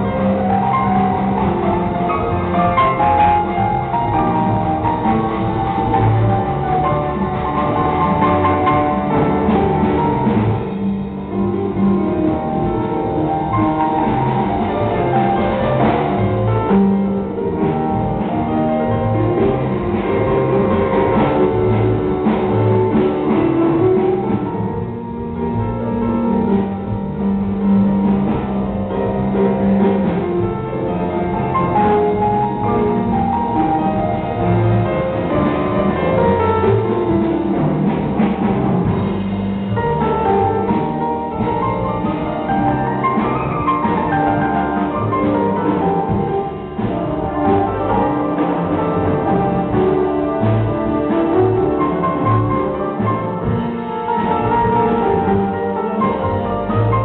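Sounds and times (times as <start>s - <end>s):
big band playing: 0.0s - 57.0s
piano: 0.0s - 57.0s.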